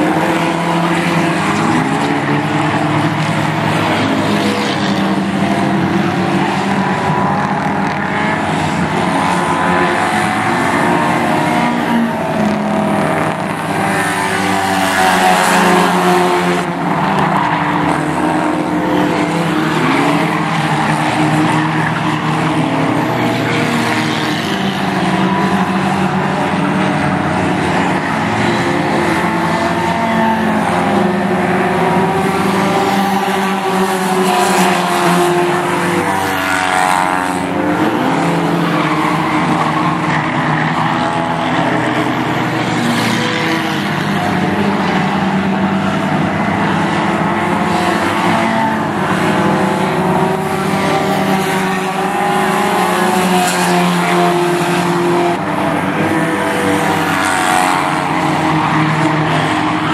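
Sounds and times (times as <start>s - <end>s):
race car engines: 0.0s - 59.9s.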